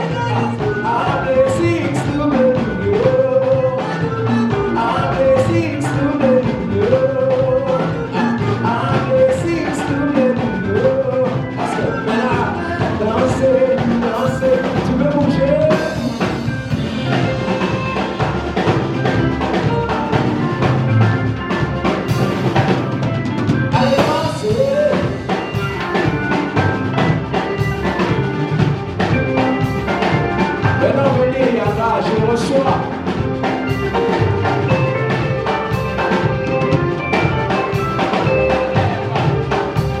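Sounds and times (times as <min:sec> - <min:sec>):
band playing drums bass keyboard: 0:00.0 - 0:40.0
voices singing: 0:00.0 - 0:40.0.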